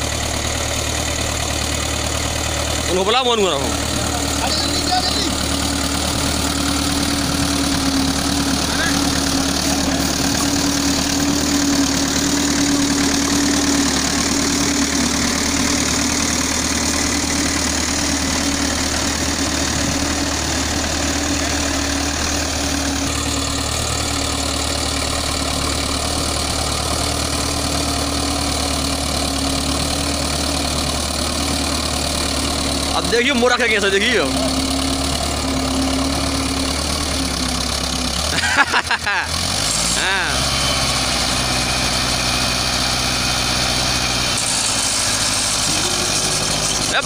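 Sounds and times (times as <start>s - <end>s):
tractor engine running steadily: 0.0s - 47.0s.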